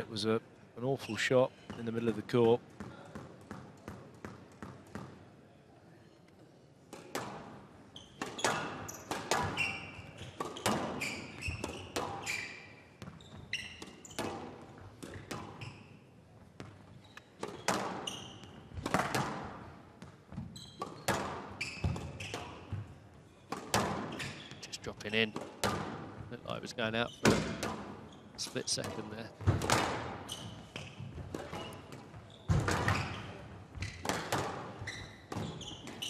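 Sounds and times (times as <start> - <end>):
shoes squeaking on court floor: 7.0 - 36.0.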